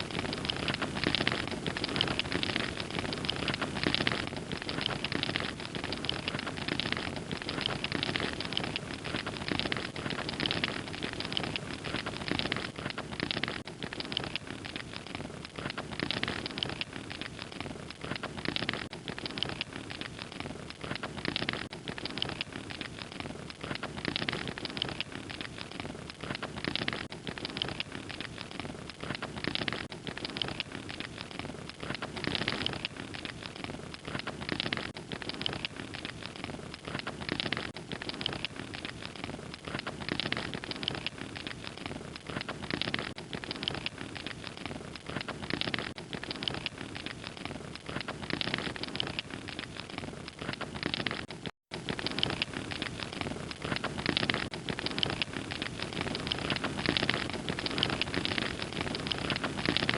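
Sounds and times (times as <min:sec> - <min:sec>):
log fire crackling and popping: 0:00.0 - 0:59.9.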